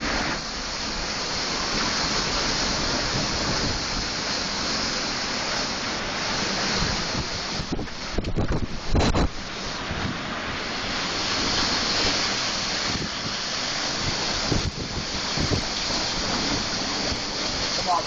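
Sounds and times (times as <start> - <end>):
storm wind rushing: 0.0 - 18.0
wind buffeting microphone: 0.0 - 18.0.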